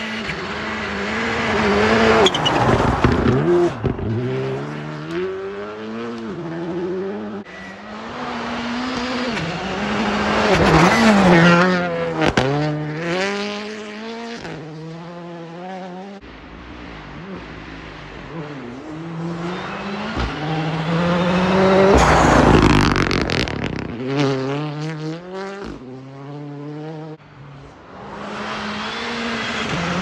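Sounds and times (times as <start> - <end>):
rally car engine revving: 0.0 - 16.3, 16.9 - 30.0
rally car passing by: 0.1 - 16.2, 16.8 - 30.0.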